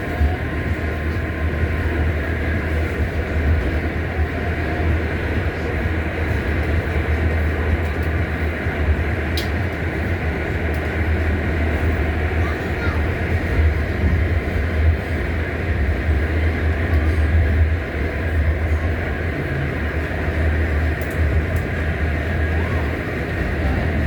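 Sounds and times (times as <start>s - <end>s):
subway car rumbling on rails: 0.0s - 24.0s.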